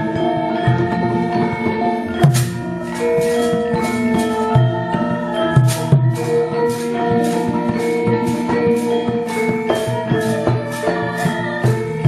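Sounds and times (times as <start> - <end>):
ringing metallophone notes: 0.0 - 12.0.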